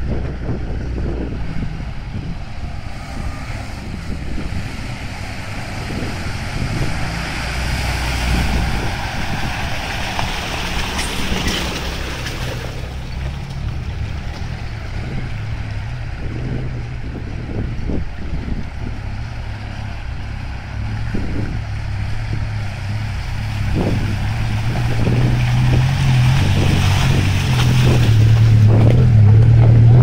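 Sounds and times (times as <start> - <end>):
off-road vehicle engine: 0.0 - 30.0
wind on microphone: 0.0 - 30.0.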